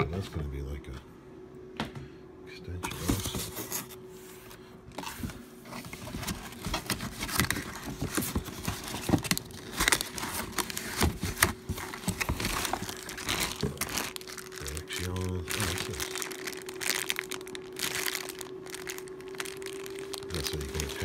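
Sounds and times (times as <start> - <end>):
faint steady hum: 0.0 - 21.0
cardboard and plastic rustling: 2.8 - 21.0.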